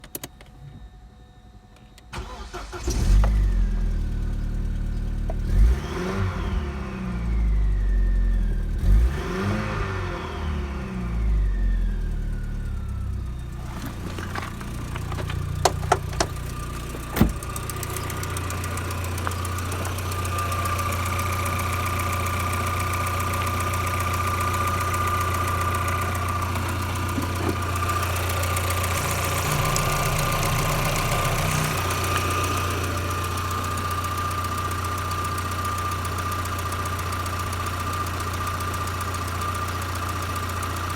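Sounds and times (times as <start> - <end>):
car engine starting and revving: 2.2 - 35.0.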